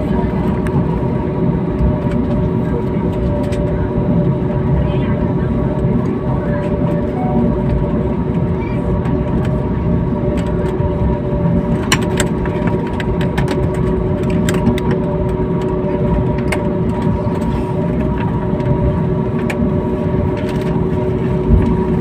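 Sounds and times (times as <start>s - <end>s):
steady engine whine: 0.0s - 22.0s.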